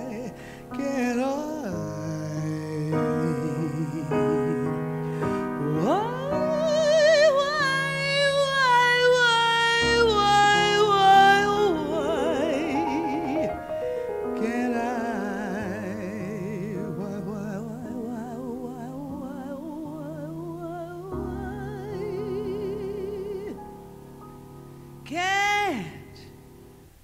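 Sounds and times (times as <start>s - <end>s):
operatic solo singer: 0.0s - 23.9s, 25.0s - 26.5s.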